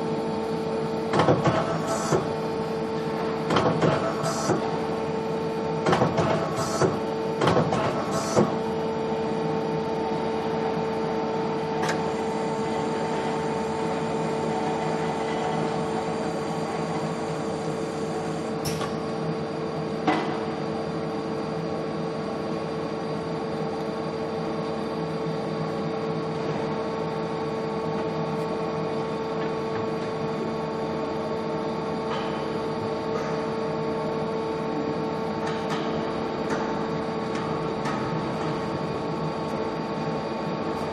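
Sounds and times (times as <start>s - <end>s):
machine hum with whine: 0.0s - 40.9s.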